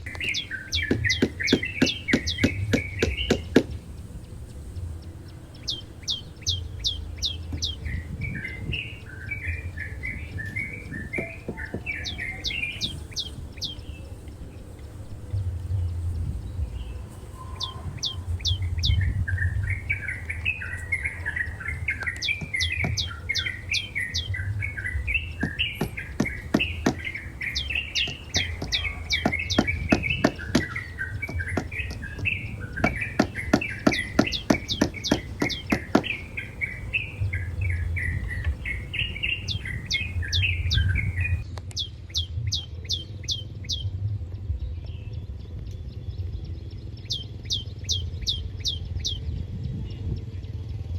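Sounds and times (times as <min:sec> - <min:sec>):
birds chattering chirps: 0:00.0 - 0:42.3.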